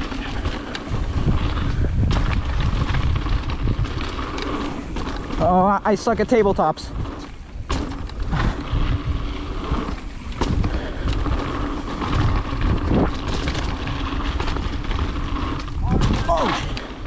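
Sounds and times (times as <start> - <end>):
wind on microphone: 0.0 - 5.6, 6.8 - 16.8
bike knocks and rattles: 0.0 - 17.0
tyres on dirt trail: 0.0 - 17.0.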